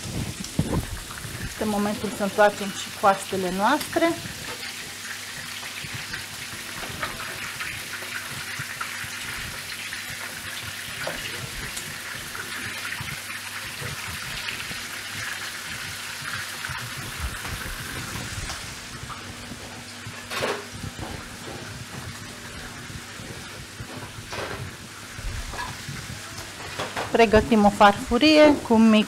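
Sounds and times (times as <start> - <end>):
meat sizzling in a frying pan: 0.0 - 29.0.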